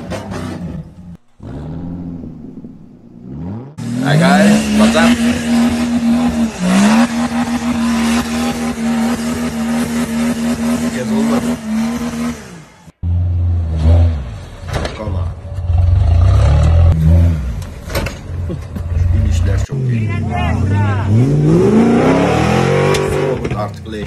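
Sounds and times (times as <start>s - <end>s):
engine revving under load: 0.0s - 18.2s, 19.0s - 23.7s.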